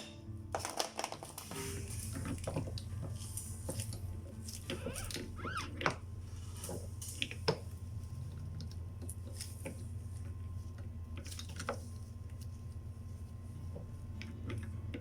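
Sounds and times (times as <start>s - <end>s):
steady low hum: 1.5s - 15.0s.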